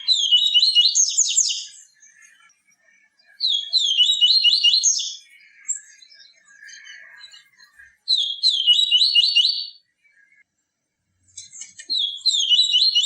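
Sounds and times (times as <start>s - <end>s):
bird singing high chirps: 0.0s - 10.5s, 11.3s - 13.0s
soft bird twittering: 0.0s - 10.5s, 11.2s - 13.0s.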